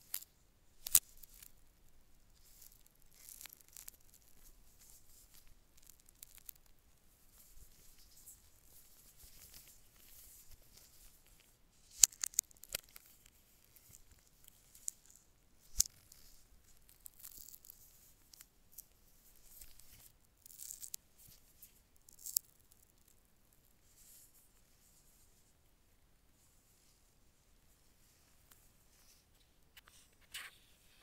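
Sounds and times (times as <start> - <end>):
soft rustling and crinkling: 0.0 - 31.0.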